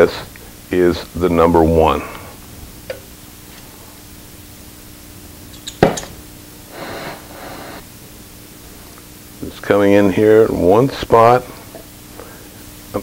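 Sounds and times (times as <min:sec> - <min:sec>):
gas flame hissing: 0:00.0 - 0:13.0.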